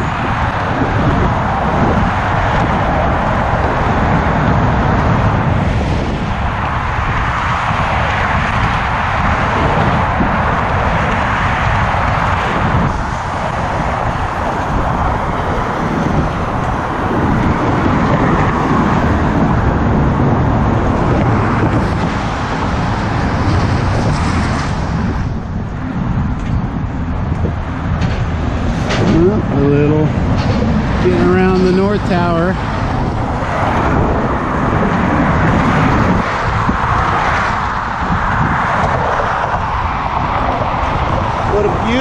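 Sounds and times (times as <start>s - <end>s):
cars passing: 0.0s - 42.0s
wind rumble on microphone: 0.0s - 42.0s.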